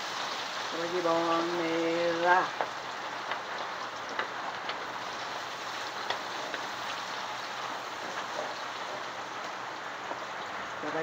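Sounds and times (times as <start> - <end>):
food sizzling in hot oil: 0.0 - 11.0
oil popping and crackling: 0.0 - 11.0.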